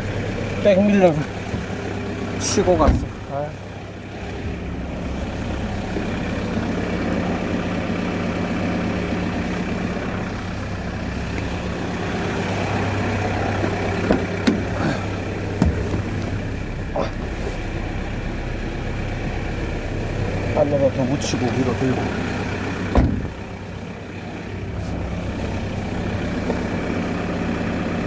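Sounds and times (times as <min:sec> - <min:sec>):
car engine humming: 0:00.0 - 0:28.0.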